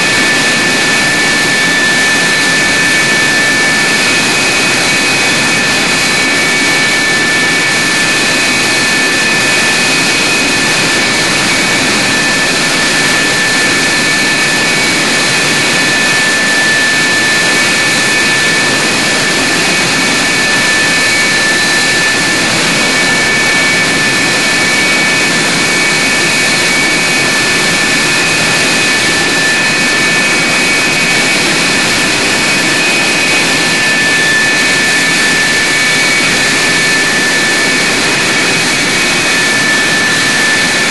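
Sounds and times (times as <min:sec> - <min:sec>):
high-pitched turbine whine: 0:00.0 - 0:40.9
jet engine rushing: 0:00.0 - 0:40.9.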